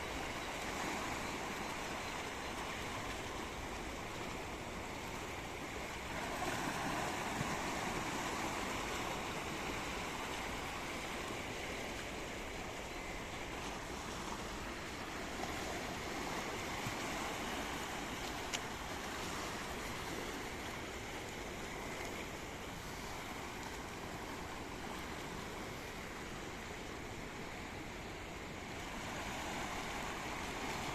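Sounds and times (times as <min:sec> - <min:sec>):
sea waves washing ashore: 0:00.0 - 0:30.9.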